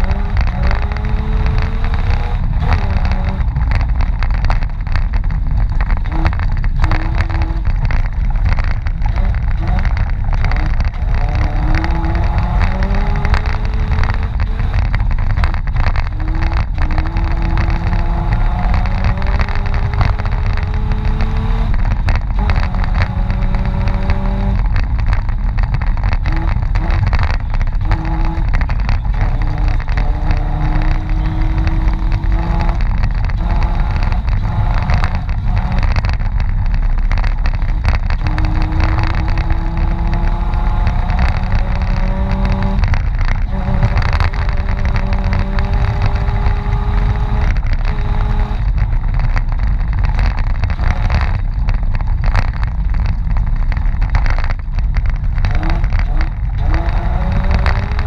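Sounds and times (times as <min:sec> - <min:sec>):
engine revving off-road: 0:00.0 - 0:58.0
knocks and bumps: 0:00.0 - 0:58.0.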